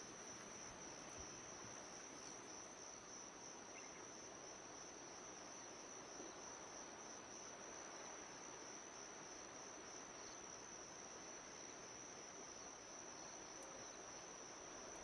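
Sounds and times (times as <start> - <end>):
crickets trilling: 0.0 - 15.0
faint background hiss: 0.0 - 15.0.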